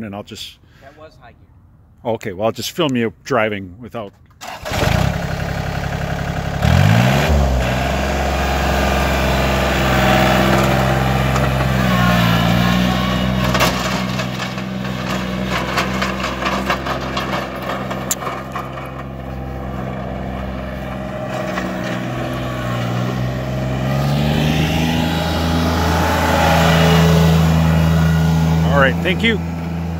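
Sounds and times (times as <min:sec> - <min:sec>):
tractor diesel engine revving: 0:04.4 - 0:29.9.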